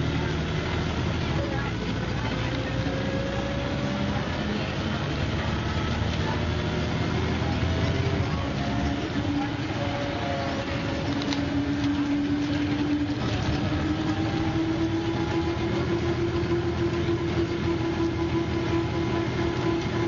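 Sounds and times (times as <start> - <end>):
bus engine whine: 0.0 - 20.0.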